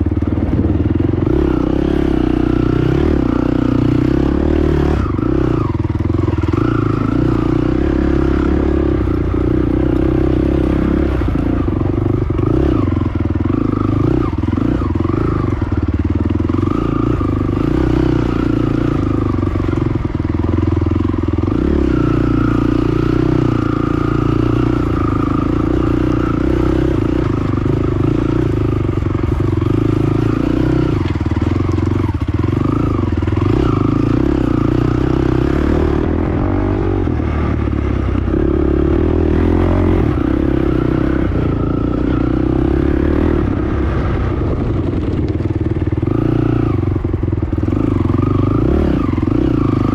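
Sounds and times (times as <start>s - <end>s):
atv engine under load: 0.0s - 49.9s.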